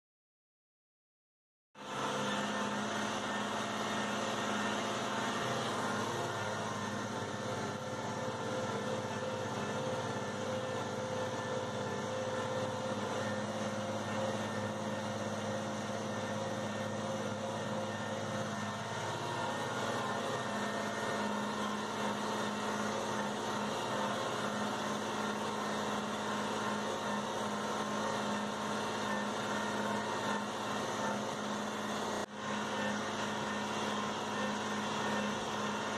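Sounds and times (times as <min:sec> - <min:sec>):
tractor engine running: 0:01.8 - 0:35.9.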